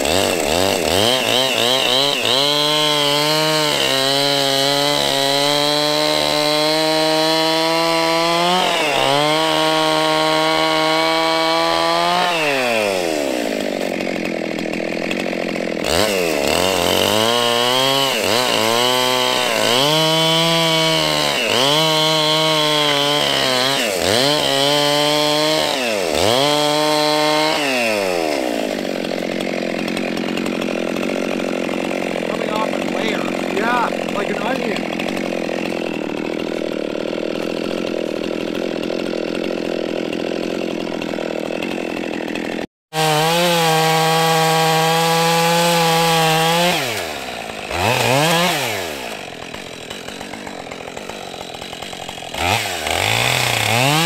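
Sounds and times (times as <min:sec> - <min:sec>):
chainsaw cutting log: 0:00.0 - 0:54.0
chainsaw idling: 0:00.0 - 0:54.0.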